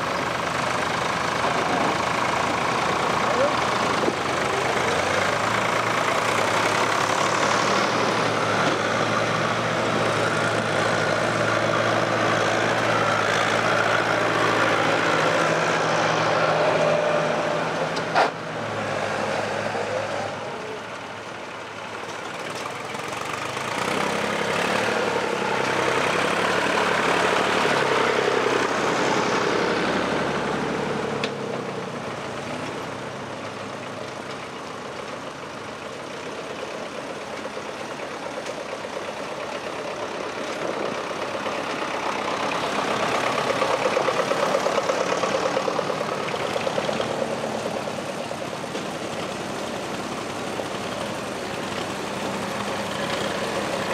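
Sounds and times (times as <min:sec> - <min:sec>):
tractor engines running: 0:00.0 - 0:53.9.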